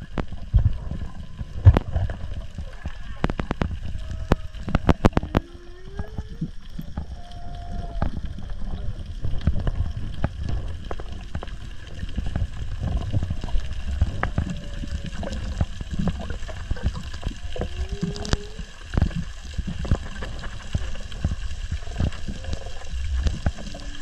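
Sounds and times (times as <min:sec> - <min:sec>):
muffled underwater surge rumble: 0:00.0 - 0:24.0
sharp underwater clicks: 0:00.0 - 0:24.0.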